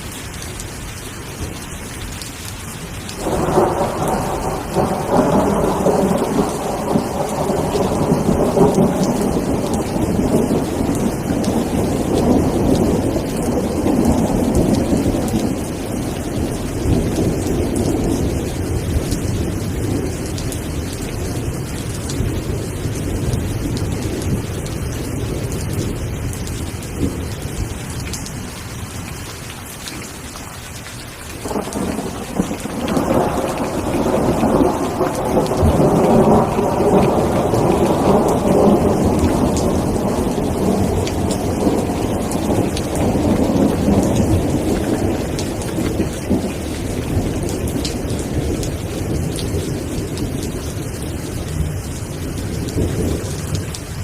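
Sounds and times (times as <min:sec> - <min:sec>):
steady rain: 0:00.0 - 0:54.0
thunder rumbling: 0:03.2 - 0:28.6, 0:31.4 - 0:54.0.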